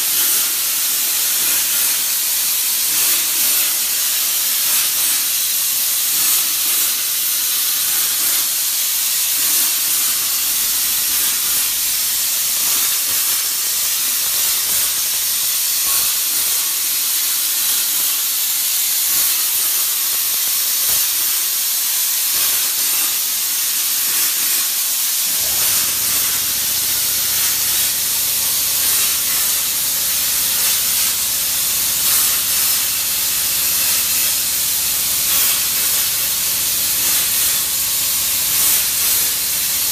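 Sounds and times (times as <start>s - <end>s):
plasma cutter torch hissing: 0.0s - 39.9s.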